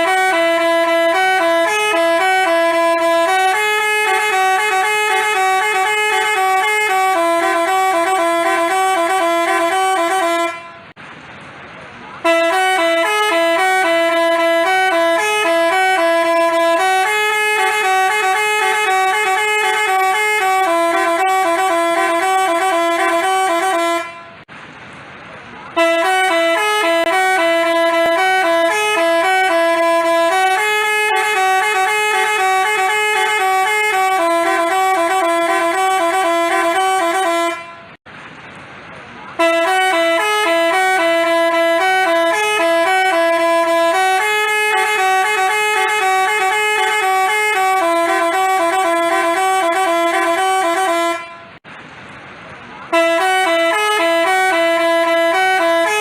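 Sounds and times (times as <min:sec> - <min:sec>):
musical bus horn melody: 0:00.0 - 0:11.0, 0:12.2 - 0:24.5, 0:25.7 - 0:38.0, 0:39.3 - 0:51.6, 0:52.8 - 0:56.0.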